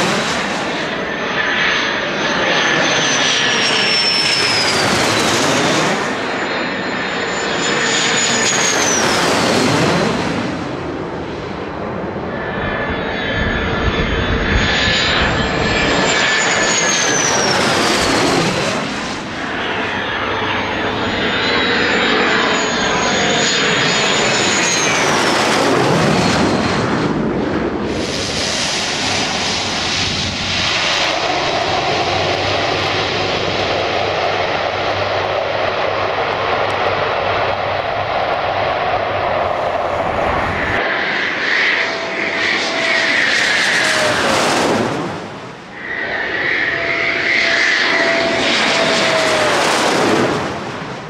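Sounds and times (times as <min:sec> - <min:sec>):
jet whine passing overhead: 0:00.0 - 0:51.0
turboprop engine drone: 0:00.0 - 0:51.0.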